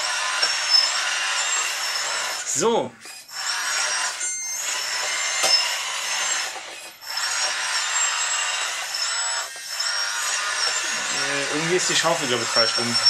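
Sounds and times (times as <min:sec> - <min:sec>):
toy hydraulic pump and motors whining: 0:00.0 - 0:13.0.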